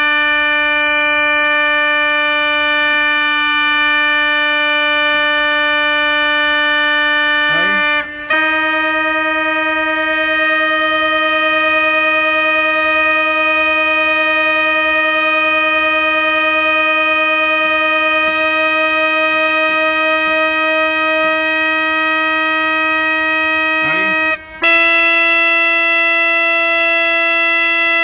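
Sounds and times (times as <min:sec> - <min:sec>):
organ reed pipe held note: 0:01.3 - 0:28.0.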